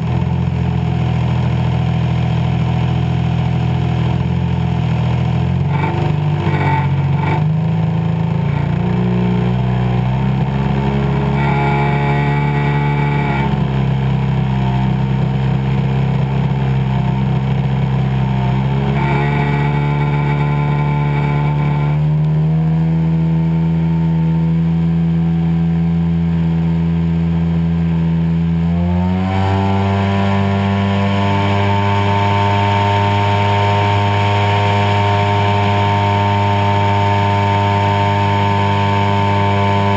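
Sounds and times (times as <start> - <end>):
model plane engine and propeller: 0.0 - 39.9.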